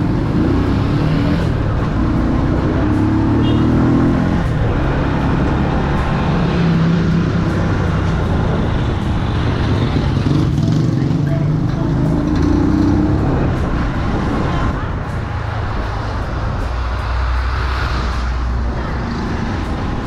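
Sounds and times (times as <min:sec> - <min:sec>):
motorbike engine running: 0:00.0 - 0:20.0
wind and road noise: 0:00.0 - 0:20.0.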